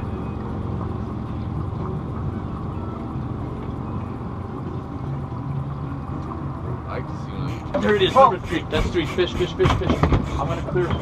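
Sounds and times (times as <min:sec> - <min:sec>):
outboard motor droning: 0:00.0 - 0:11.0
water splashing at stern: 0:00.0 - 0:11.0.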